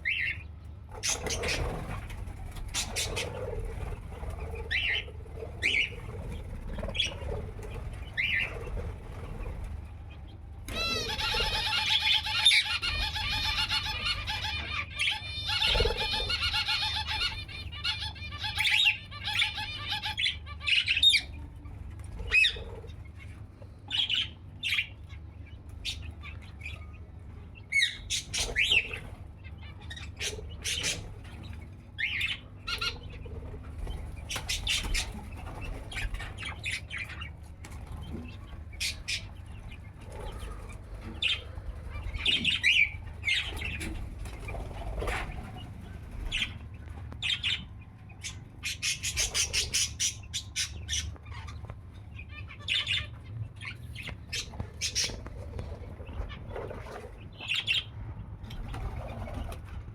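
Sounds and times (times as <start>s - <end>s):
bird calls and squawks: 0.0s - 59.8s
birds chirping: 0.0s - 59.8s.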